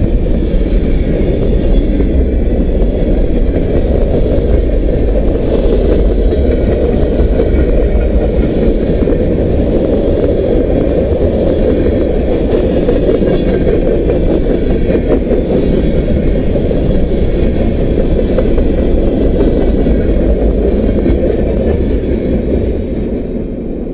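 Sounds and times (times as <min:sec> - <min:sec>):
freight train wheels rumbling: 0:00.0 - 0:23.9.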